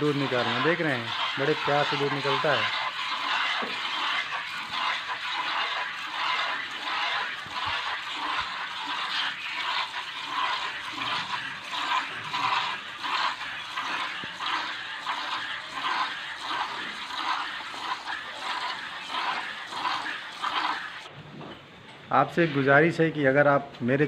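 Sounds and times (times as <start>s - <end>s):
milk squirting into plastic bucket: 0.0s - 21.1s.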